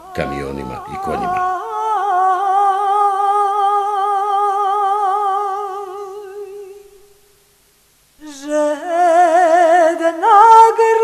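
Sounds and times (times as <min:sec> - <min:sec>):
person singing folk song: 0:00.0 - 0:07.1, 0:08.2 - 0:11.0.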